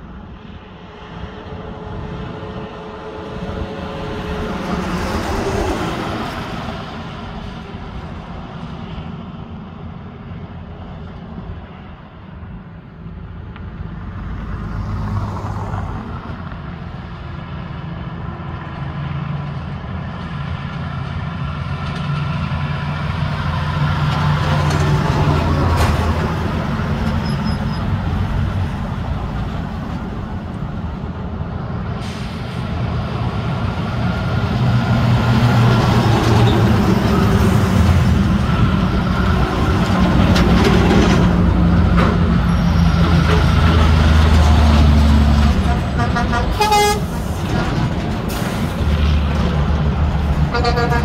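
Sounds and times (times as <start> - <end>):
diesel truck engines droning: 0.0 - 51.0.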